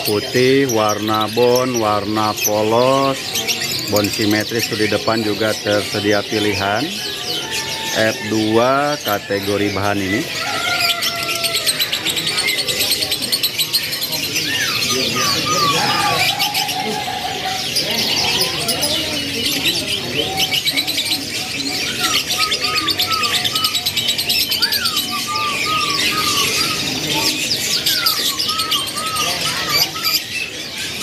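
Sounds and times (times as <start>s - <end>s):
canaries chirping: 0.0s - 31.0s
lower bird calls: 0.0s - 31.0s.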